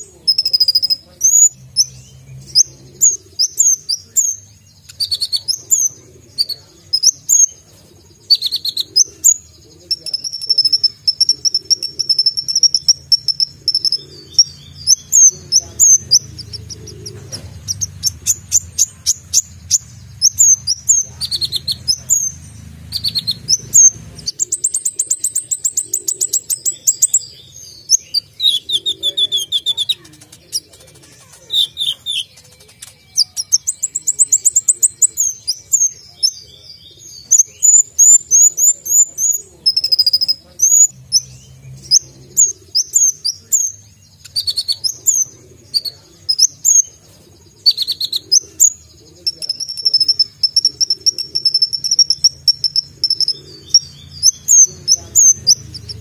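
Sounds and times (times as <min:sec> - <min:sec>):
sunbird singing: 0:00.0 - 0:56.0.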